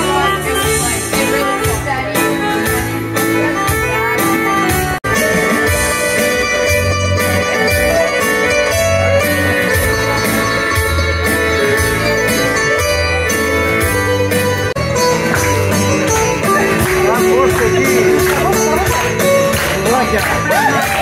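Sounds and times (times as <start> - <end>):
plucked strings over bass beat: 0.0 - 21.0.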